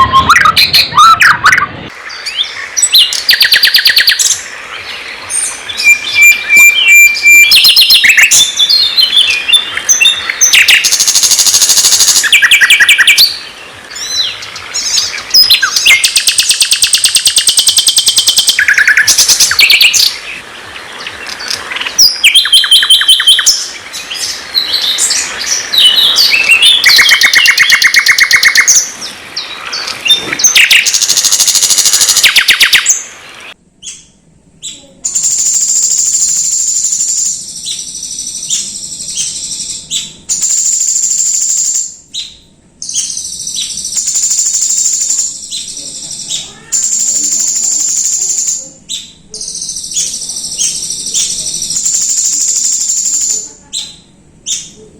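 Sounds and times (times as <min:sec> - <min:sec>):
high bird trill: 0:00.0 - 0:04.5, 0:05.2 - 0:33.1, 0:33.8 - 0:54.9
songbird singing: 0:00.0 - 0:54.9.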